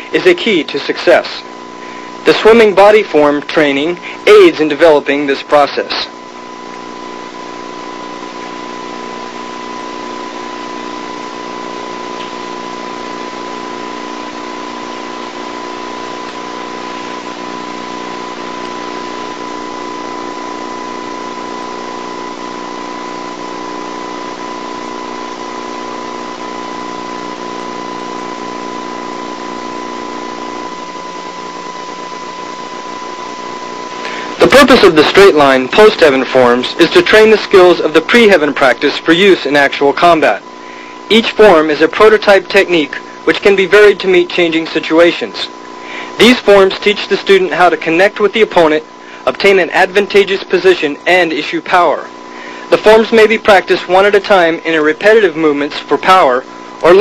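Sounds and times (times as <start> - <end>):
videotape hiss: 0.0 - 57.0.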